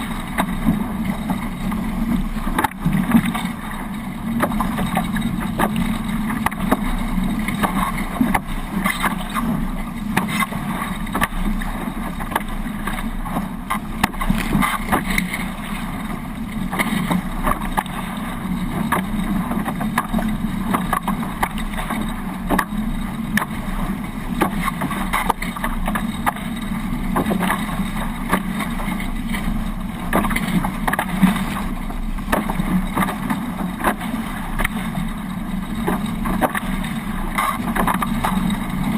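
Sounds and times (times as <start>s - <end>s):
water rushing along boat hulls: 0.0s - 38.9s.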